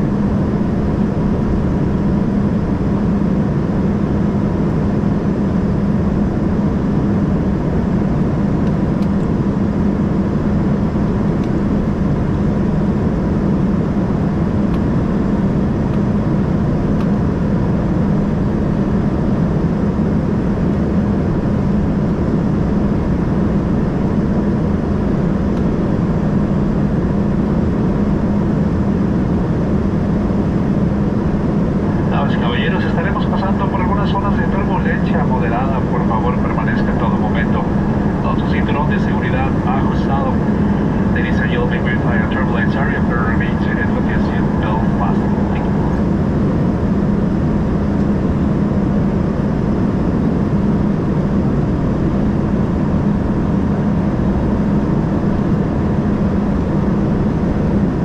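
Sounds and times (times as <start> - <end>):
airplane cabin roar: 0.0 - 58.0
faint whine: 0.0 - 58.0
low hum: 0.0 - 58.0.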